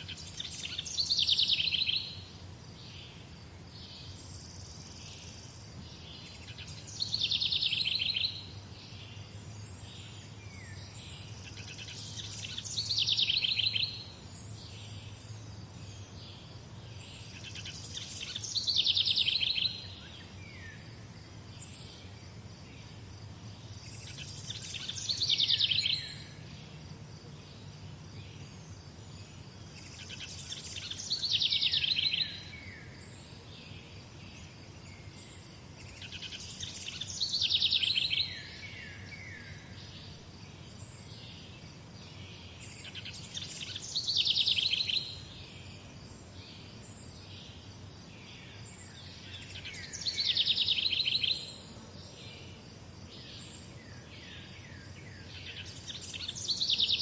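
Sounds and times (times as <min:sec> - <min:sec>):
faint bird chirps: 0:00.0 - 0:57.0
songbird trilling song: 0:00.0 - 0:57.0.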